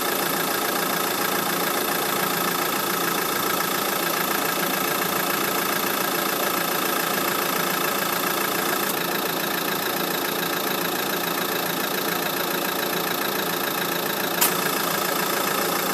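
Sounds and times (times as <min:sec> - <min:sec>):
car engine idling: 0:00.1 - 0:15.9.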